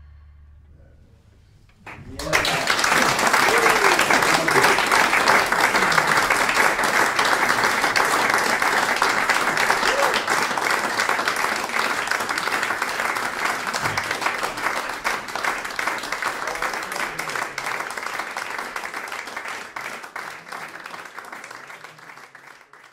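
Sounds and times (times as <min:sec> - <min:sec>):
audience applauding: 0:01.8 - 0:22.9.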